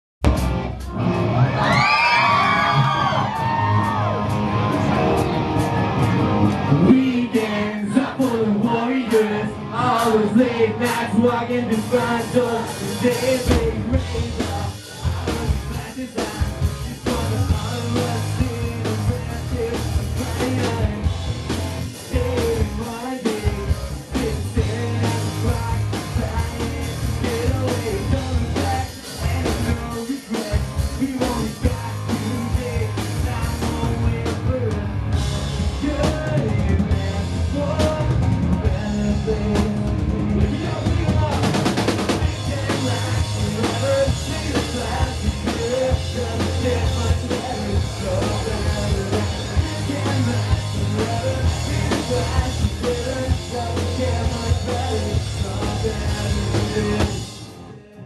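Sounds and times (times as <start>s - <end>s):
live rock band playing: 0.2s - 58.0s
lead singer singing: 1.7s - 58.0s.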